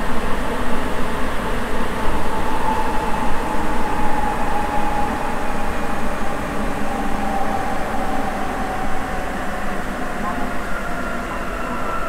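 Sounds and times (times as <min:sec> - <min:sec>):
train rumbling in tunnel: 0:00.0 - 0:12.0
train whine falling in pitch: 0:01.8 - 0:12.0.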